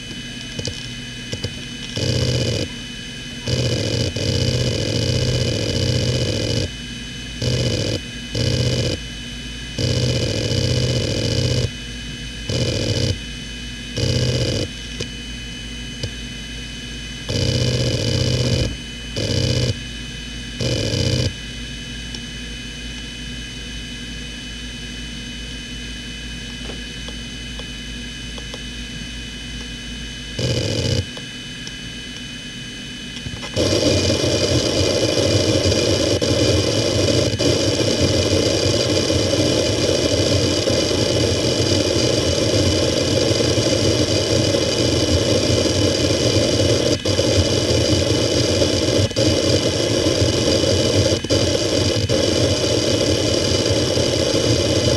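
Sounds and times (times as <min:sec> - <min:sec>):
hard drive spindle whine: 0:00.0 - 0:54.9.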